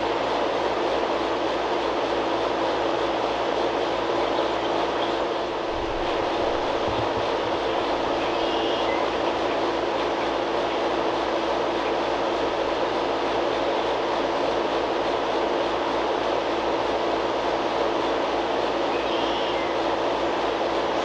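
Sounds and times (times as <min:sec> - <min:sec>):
loud mechanical drone with hum: 0:00.0 - 0:21.0.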